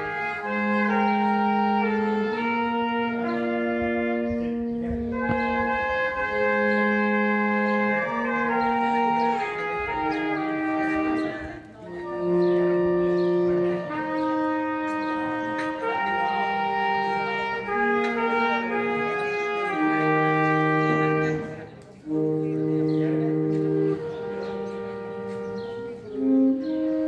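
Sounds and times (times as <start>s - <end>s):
slow instrumental music: 0.0s - 27.0s.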